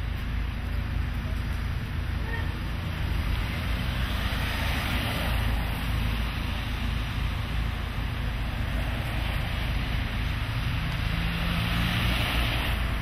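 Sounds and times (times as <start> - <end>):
low traffic rumble: 0.0 - 13.0
tyres hissing on wet road: 0.0 - 13.0.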